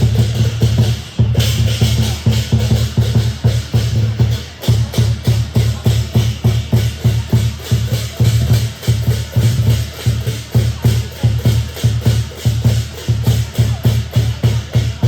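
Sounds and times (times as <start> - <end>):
big drum beating fast rhythm: 0.0 - 15.0
cymbals clashing: 0.0 - 15.0.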